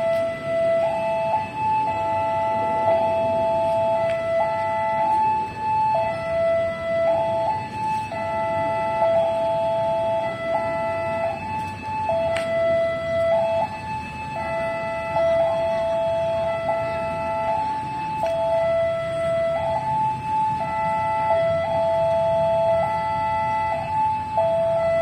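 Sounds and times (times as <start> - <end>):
two-tone level-crossing alarm: 0.0 - 25.0.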